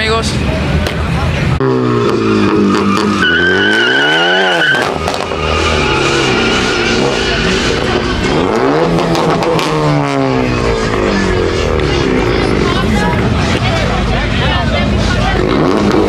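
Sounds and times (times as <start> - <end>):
car engine revving: 0.4 - 16.0
tires squealing: 1.6 - 16.0.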